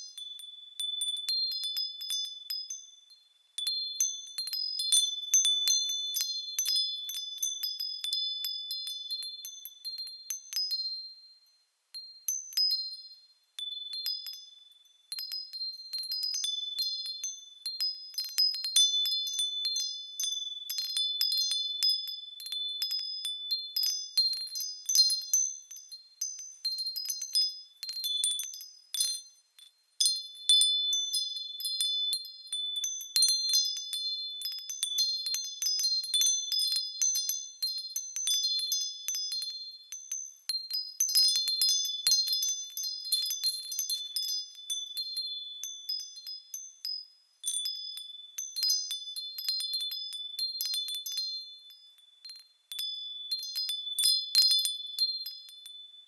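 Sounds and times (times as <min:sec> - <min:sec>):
small bells jangling: 0:00.0 - 0:11.1, 0:12.0 - 0:56.0.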